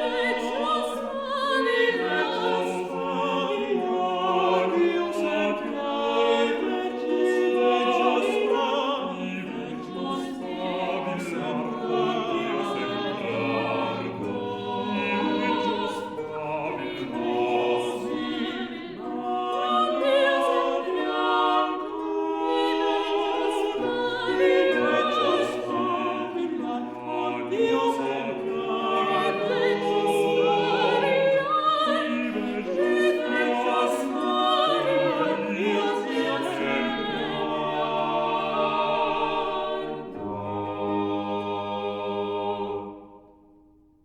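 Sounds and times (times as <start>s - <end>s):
vocal ensemble singing: 0.0s - 43.5s.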